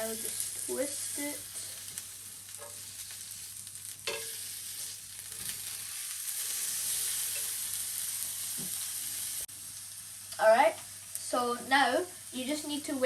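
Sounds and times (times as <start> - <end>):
skewers sizzling in a pan: 0.0 - 13.0.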